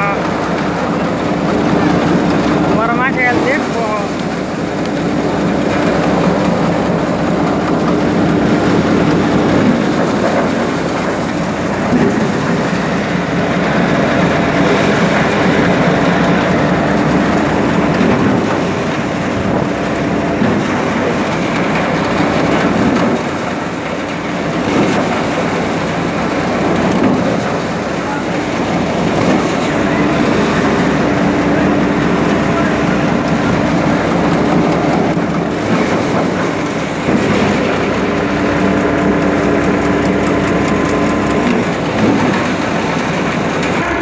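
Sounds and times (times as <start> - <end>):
thresher rattling: 0.0 - 44.0
tractor engine running: 0.0 - 44.0.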